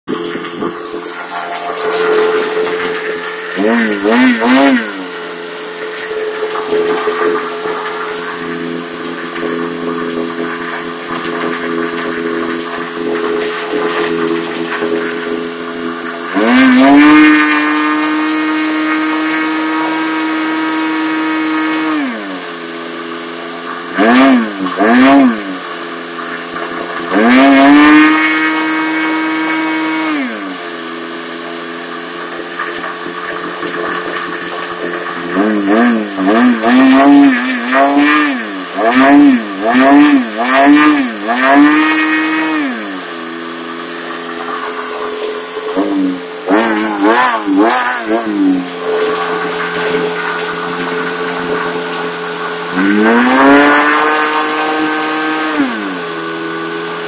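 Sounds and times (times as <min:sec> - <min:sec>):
model boat engine revving: 0:00.1 - 0:57.0.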